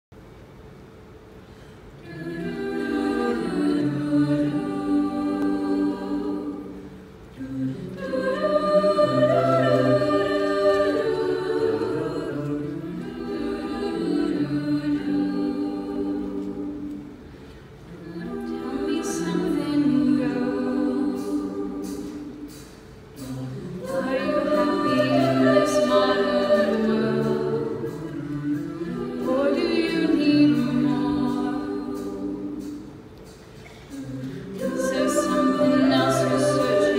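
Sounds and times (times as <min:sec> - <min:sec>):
a cappella choir singing: 0:02.0 - 0:36.9.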